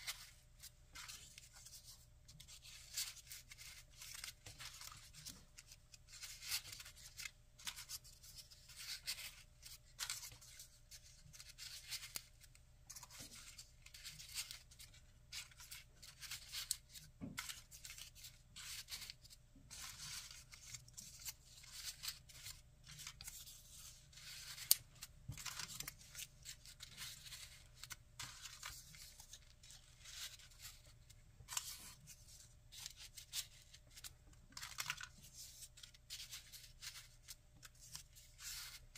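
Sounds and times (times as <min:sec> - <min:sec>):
paper rustling and scraping: 0:00.0 - 0:38.9.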